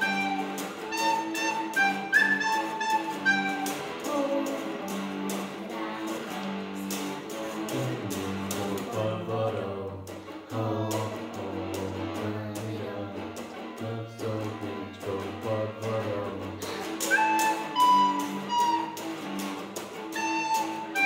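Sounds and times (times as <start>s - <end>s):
child singing: 0.0s - 19.0s
electric guitar strumming: 0.0s - 21.0s.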